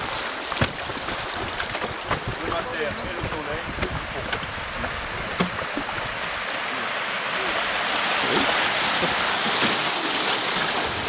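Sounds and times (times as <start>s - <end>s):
river water rushing over riffle: 0.0s - 11.0s.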